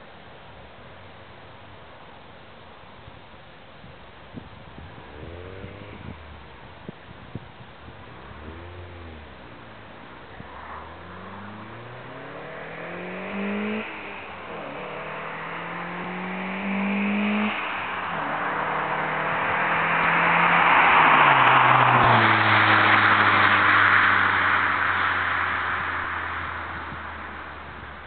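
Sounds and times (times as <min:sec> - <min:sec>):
car accelerating with loud exhaust: 0:03.8 - 0:28.0.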